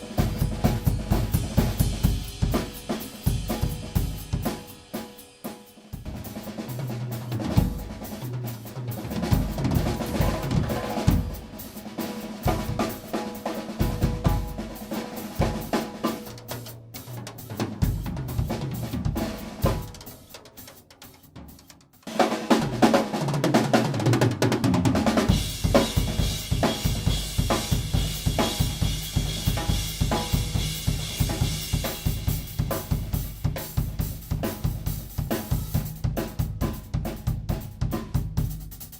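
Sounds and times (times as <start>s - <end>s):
drum kit playing: 0.0s - 38.9s.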